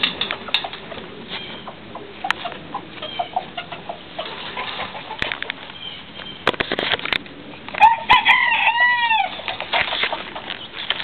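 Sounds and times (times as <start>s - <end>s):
chickens clucking and chirping: 0.0s - 11.0s.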